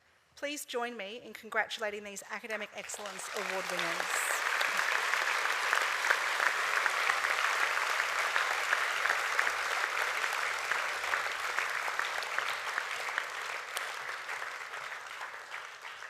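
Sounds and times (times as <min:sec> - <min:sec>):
audience applauding: 0:02.8 - 0:16.0.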